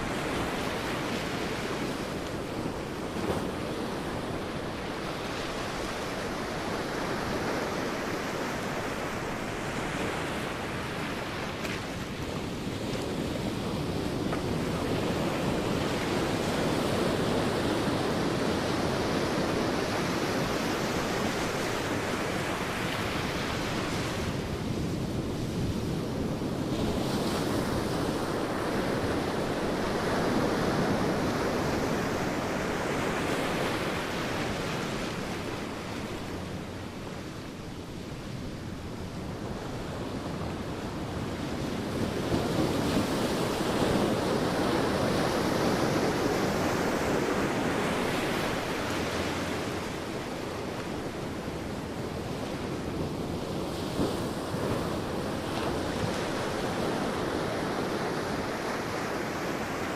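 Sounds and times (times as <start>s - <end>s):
sea waves breaking on a beach: 0.0s - 59.9s
wind on the microphone: 0.0s - 59.9s.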